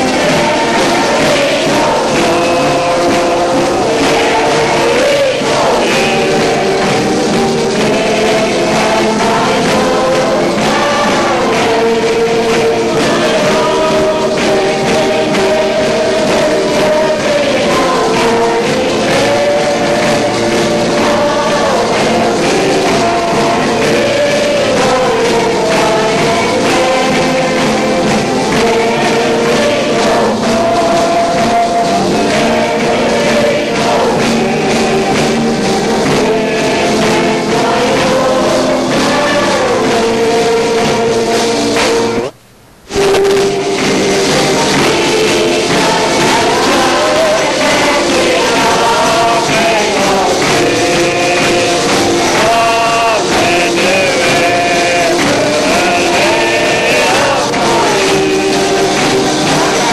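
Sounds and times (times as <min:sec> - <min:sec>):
choir singing a gospel hymn: 0:00.0 - 0:59.9
musical accompaniment: 0:00.0 - 0:59.9.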